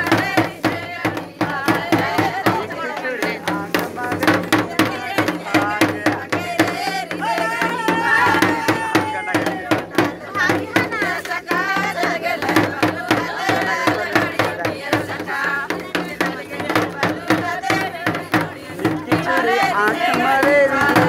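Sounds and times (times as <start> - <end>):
steady drum beats: 0.0 - 21.0
voices singing folk song: 0.0 - 21.0.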